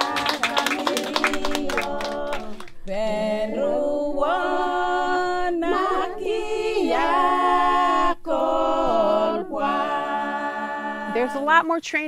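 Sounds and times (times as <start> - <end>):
group singing unaccompanied: 0.0 - 11.6.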